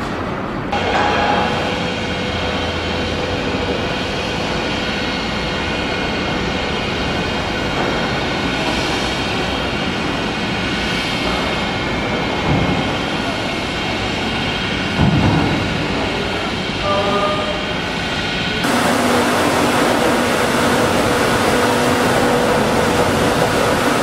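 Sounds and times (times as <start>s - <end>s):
fan blower rushing drone: 0.0s - 24.0s.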